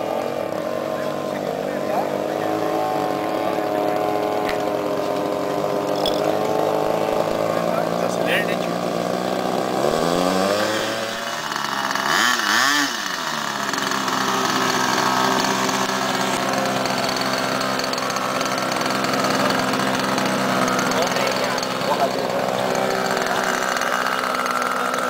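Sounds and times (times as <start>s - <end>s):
small model plane engine: 0.0s - 25.0s.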